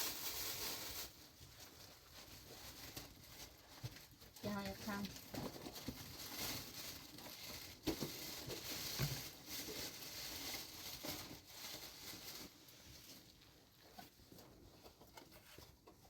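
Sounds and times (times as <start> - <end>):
rustling and crinkling objects: 0.0 - 16.0.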